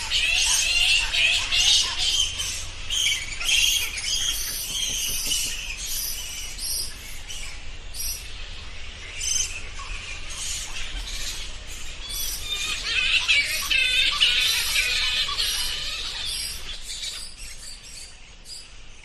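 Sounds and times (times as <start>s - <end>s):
bats squeaking: 0.0s - 8.3s, 9.2s - 18.1s.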